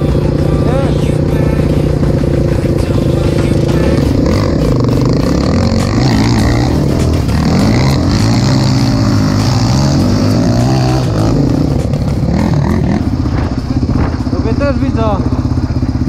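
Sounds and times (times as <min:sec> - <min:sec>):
quad engine revving: 0:00.0 - 0:16.0
second quad engine running: 0:00.0 - 0:16.0.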